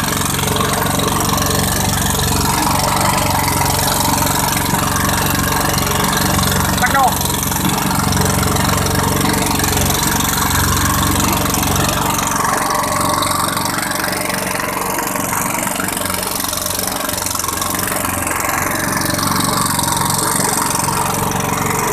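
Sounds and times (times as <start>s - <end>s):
boat engine running: 0.0s - 21.9s.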